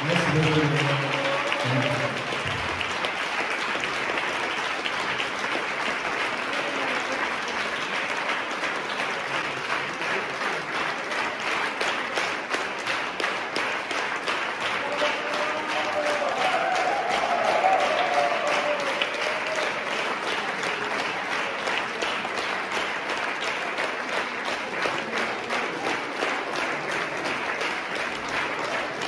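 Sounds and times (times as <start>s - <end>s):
audience applauding: 0.0s - 29.0s.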